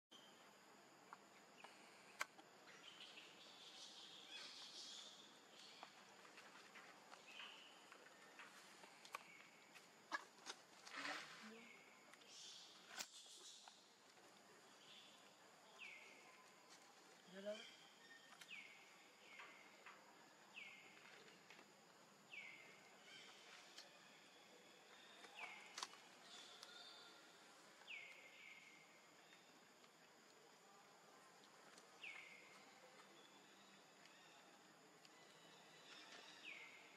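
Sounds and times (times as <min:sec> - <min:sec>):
faint birds chirping: 0:00.1 - 0:36.9
insects chirping: 0:00.1 - 0:36.9.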